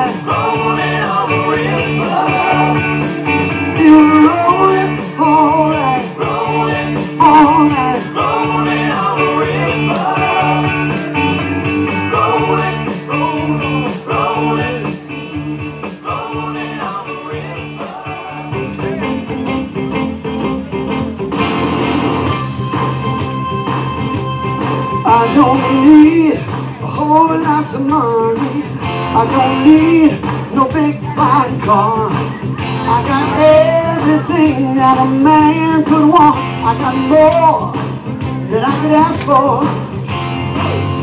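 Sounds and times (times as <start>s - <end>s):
blues-rock band playing: 0.0s - 16.0s, 17.8s - 41.0s
wavering electric guitar lead: 0.0s - 41.0s.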